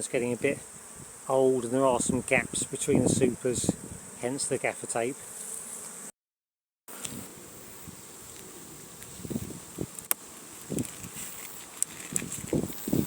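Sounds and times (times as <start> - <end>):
bees buzzing: 0.0 - 6.1, 6.9 - 13.0.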